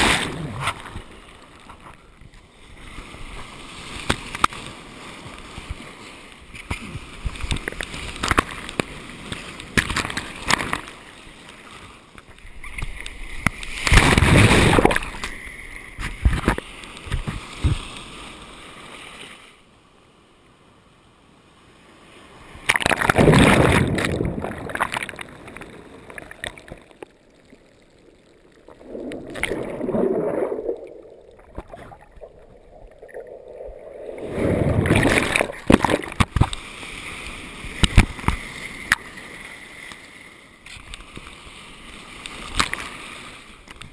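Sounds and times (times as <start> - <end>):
waves breaking over camera: 0.0 - 20.3, 21.2 - 43.9
dull low water rush: 0.0 - 43.9.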